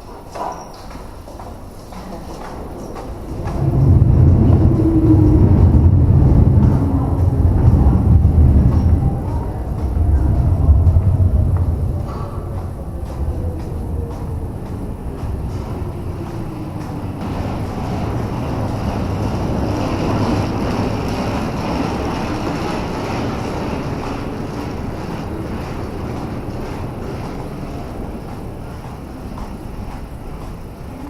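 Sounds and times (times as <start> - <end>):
electric train passing: 0.9 - 31.0.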